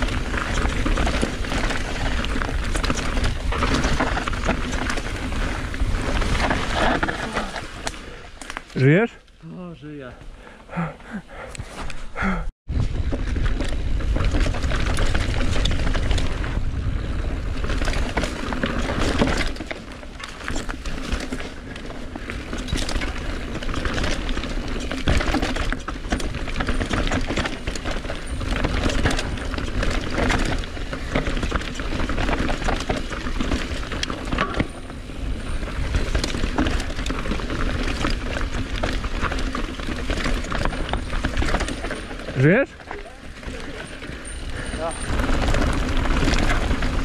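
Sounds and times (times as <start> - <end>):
bike chain and frame clattering: 0.0 - 9.0, 12.8 - 47.0
bike tyres over rocks: 0.0 - 47.0.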